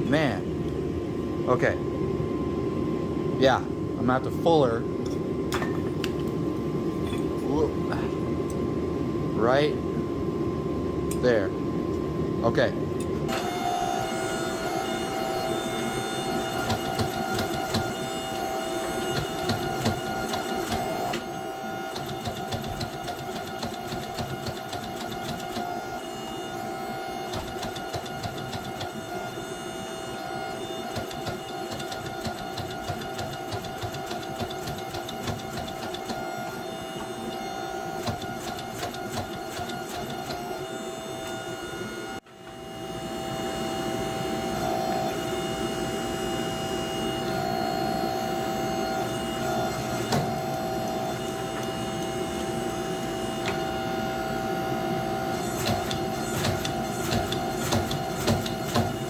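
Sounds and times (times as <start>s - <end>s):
hydraulic press motor whine: 0.0s - 59.0s.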